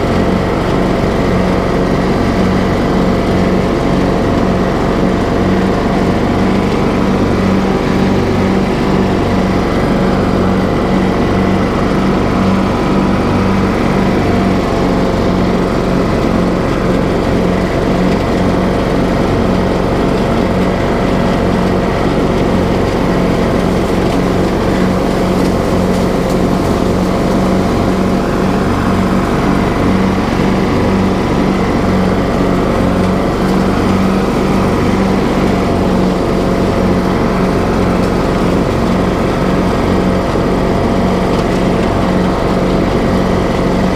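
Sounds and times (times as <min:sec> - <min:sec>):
riding lawn mower engine: 0:00.0 - 0:43.9.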